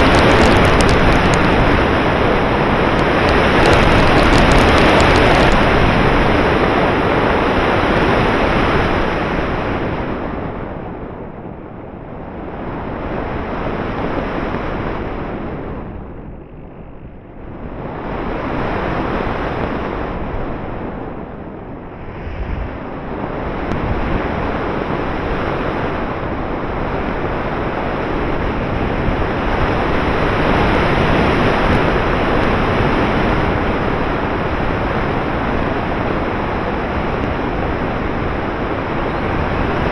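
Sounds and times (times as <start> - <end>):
wind roar on microphone: 0.0 - 39.9.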